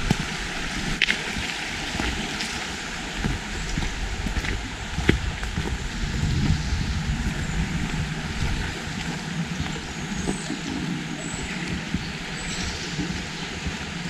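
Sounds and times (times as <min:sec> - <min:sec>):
light footsteps: 0:00.0 - 0:14.0
steady rushing noise: 0:00.0 - 0:14.0.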